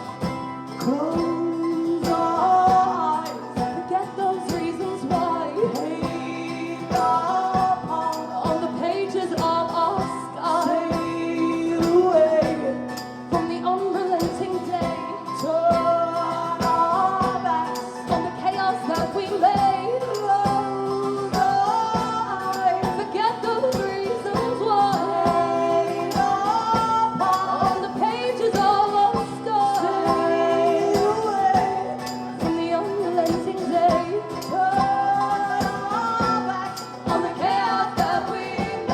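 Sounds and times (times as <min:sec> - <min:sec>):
strummed acoustic guitars: 0:00.0 - 0:38.9
women singing: 0:00.0 - 0:38.9.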